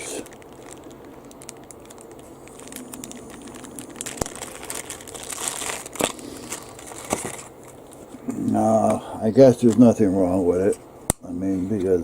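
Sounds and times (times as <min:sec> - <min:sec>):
crinkling and rustling of parts: 0:00.0 - 0:10.7.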